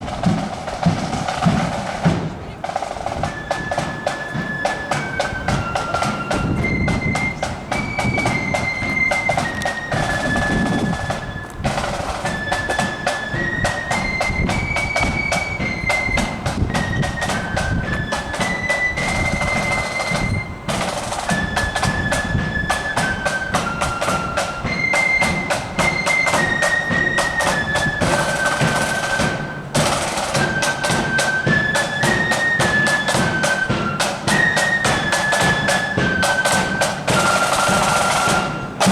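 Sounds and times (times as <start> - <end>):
flute melody: 0.0 - 38.9
snare drum beats: 0.0 - 38.9.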